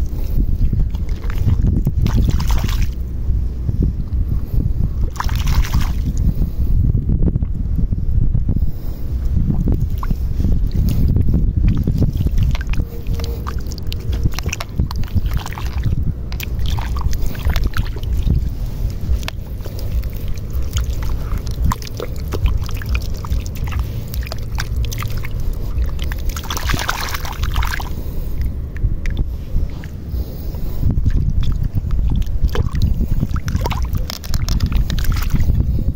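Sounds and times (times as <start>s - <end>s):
hands sloshing through wet mud: 0.0s - 3.0s, 5.1s - 6.2s, 9.6s - 35.9s
small splashes and squelches: 0.0s - 3.0s, 5.1s - 6.2s, 9.6s - 30.0s, 31.0s - 35.9s
wind rumble on microphone: 0.0s - 35.9s.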